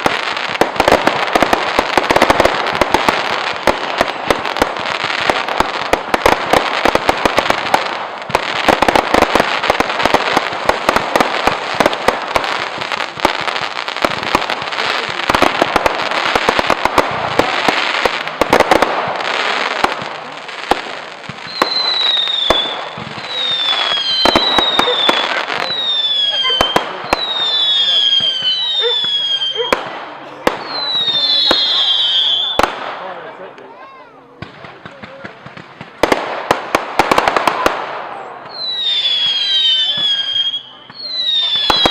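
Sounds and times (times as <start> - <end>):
fireworks crackling and popping: 0.0 - 41.9.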